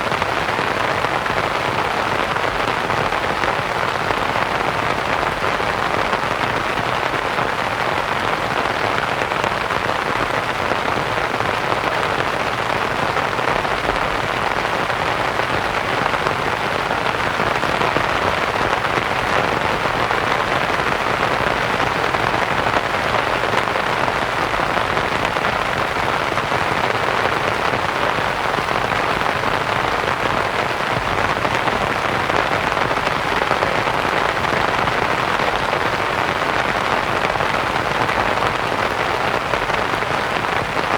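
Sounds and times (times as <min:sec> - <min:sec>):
rain pattering on a canvas tent: 0:00.0 - 0:40.9.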